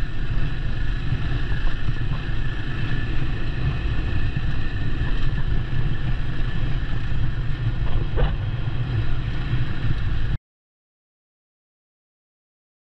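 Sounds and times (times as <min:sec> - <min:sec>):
motorcycle engine running: 0:00.0 - 0:10.4
wind rumble on microphone: 0:00.0 - 0:10.4.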